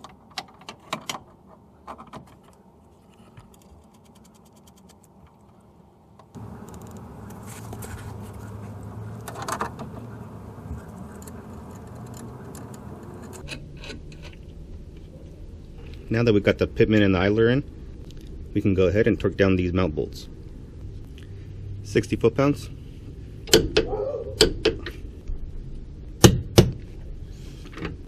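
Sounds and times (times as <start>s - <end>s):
steady low hum: 2.6s - 28.0s.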